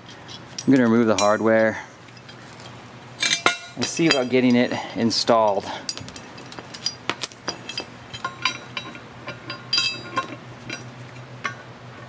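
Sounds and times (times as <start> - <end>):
metal hardware clinking: 0.0 - 11.7.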